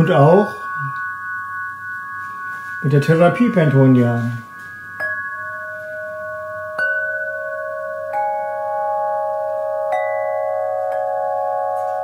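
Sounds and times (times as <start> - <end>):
crystal rods struck with mallet: 0.0 - 12.0.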